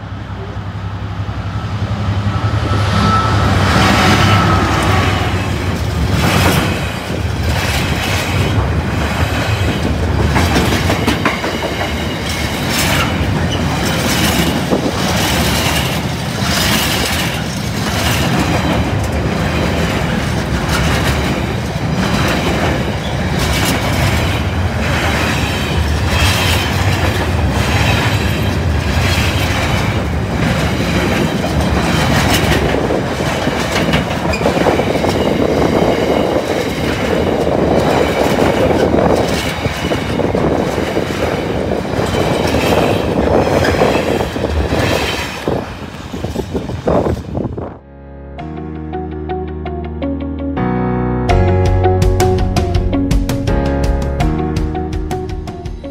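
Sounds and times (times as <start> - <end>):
train rumble: 0.0 - 47.9
train wheels clattering over track: 2.1 - 47.6.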